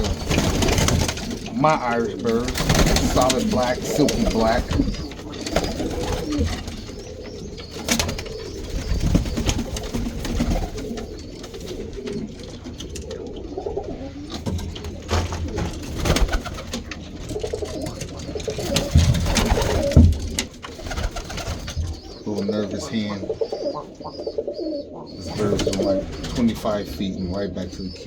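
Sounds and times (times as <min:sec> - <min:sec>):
birds moving knocks and clicks: 0:00.0 - 0:28.0
pigeons cooing: 0:00.0 - 0:28.0.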